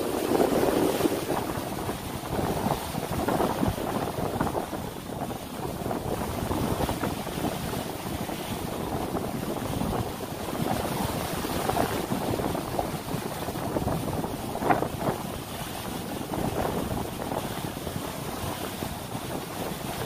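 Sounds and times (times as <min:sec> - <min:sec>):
boat engine rumble: 0:00.0 - 0:20.0
rushing water: 0:00.0 - 0:20.0
wind buffeting microphone: 0:00.0 - 0:20.0.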